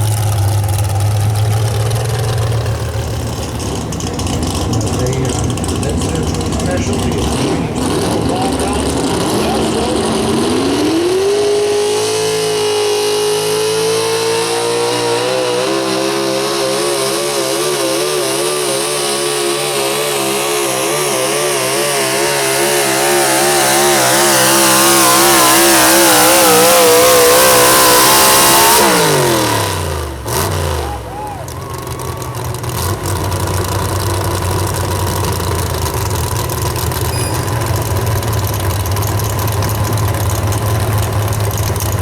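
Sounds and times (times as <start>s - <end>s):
truck engine revving under load: 0.0s - 42.0s.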